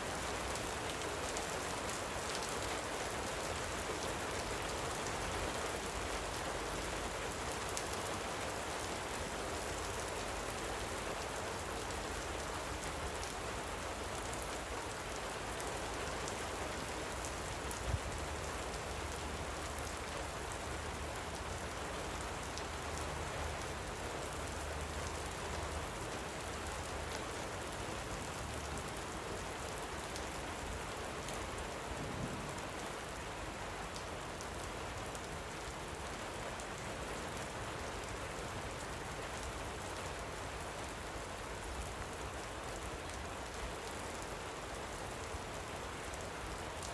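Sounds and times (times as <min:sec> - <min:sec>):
light rain hiss: 0:00.0 - 0:46.9.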